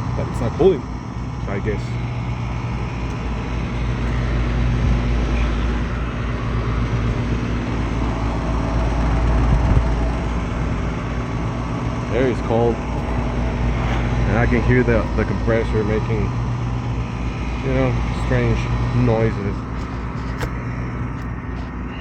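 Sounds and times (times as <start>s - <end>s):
air conditioner unit humming: 0.0s - 22.0s
compressor strange noises: 0.0s - 22.0s.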